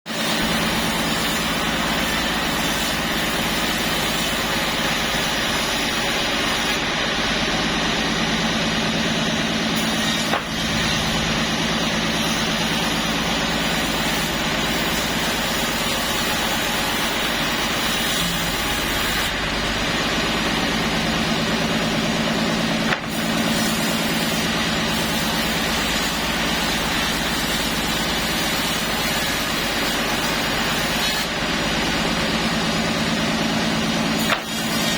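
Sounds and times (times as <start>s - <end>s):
sawmill machinery droning: 0.1s - 34.9s.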